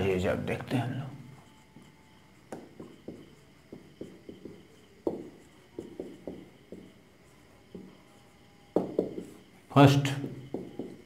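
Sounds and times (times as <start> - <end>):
marker writing on whiteboard: 0.0 - 11.0.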